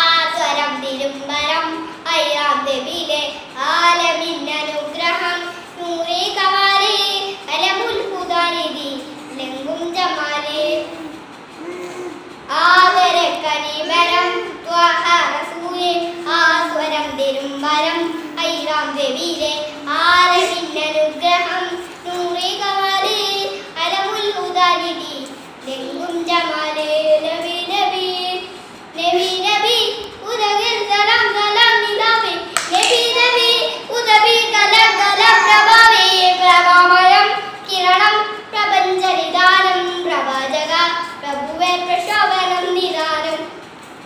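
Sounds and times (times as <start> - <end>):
boy singing into microphone: 0.0 - 43.7.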